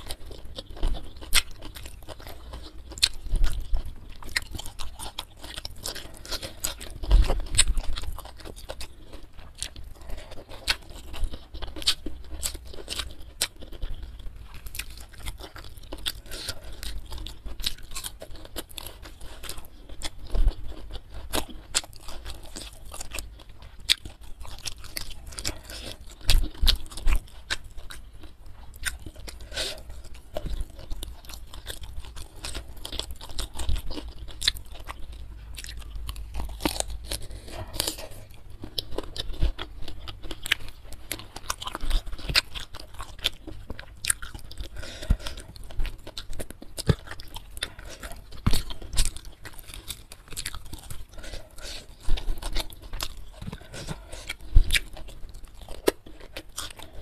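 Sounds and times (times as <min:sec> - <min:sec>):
crisp crunches of chewing: 0:00.0 - 0:57.0.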